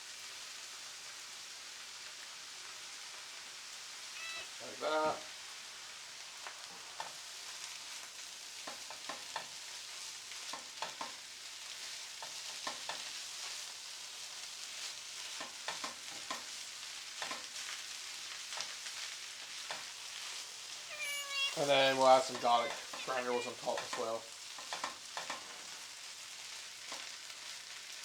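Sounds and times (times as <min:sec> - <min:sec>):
rice sizzling in a hot pan: 0:00.0 - 0:28.0.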